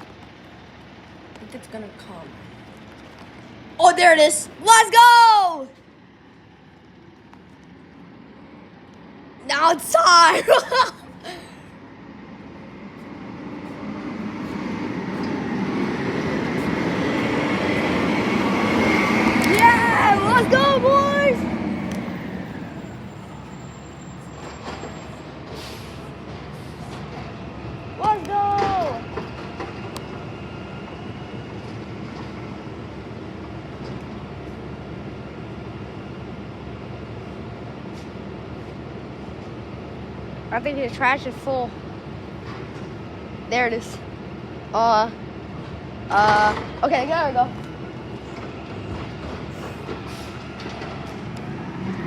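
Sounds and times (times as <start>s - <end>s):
truck diesel engine approaching: 0.0s - 52.0s.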